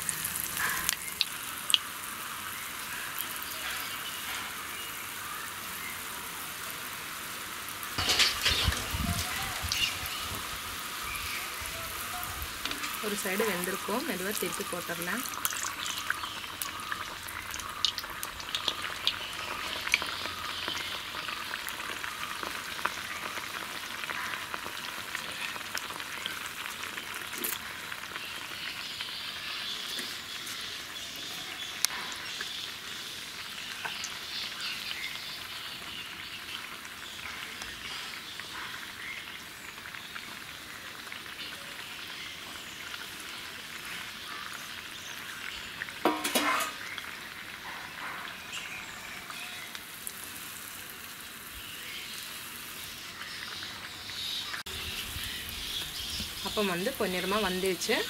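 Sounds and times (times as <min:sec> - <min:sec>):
oil sizzling and crackling: 0:00.0 - 0:58.0.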